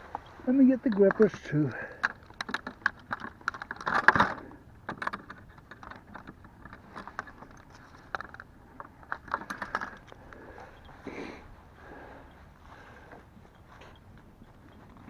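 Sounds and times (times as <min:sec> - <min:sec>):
fishing gear clicking and rattling: 0:00.0 - 0:15.0.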